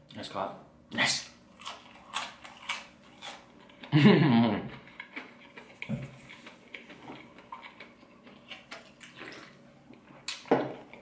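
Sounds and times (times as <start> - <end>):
chewing crispy food: 1.5 - 11.0.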